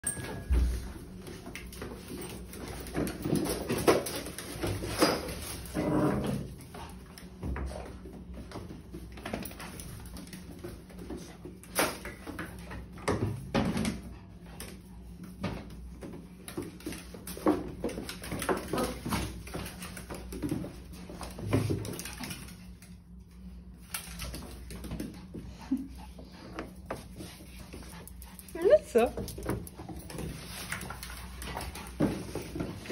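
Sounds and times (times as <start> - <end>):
dogs scuffling on tiles: 0.0 - 32.9.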